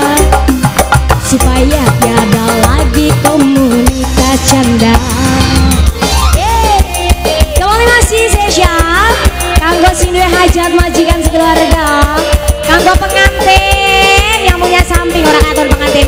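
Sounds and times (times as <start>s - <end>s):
fast drum beat: 0.0s - 16.0s
keyboard: 0.0s - 16.0s
woman singing: 0.0s - 16.0s.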